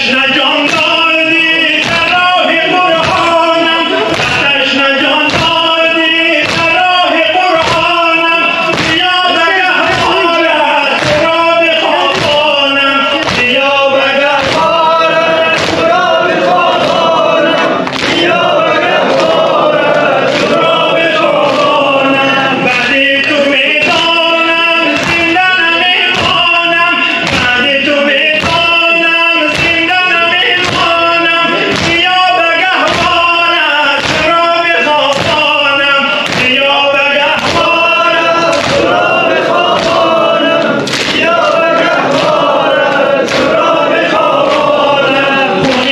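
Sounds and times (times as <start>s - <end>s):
men chanting together: 0.0s - 45.9s
hands striking chests: 1.6s - 24.2s, 29.5s - 45.9s.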